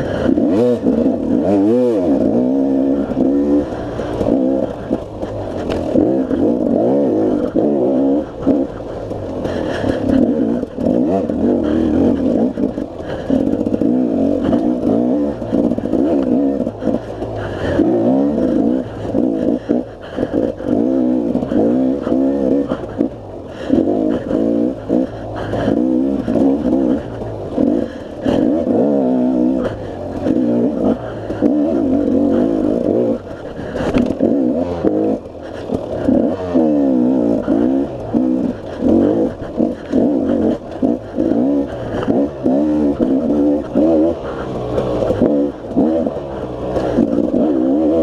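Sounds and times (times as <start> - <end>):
clatter: 0.0 - 48.0
two-stroke motorcycle engine revving: 0.0 - 48.0.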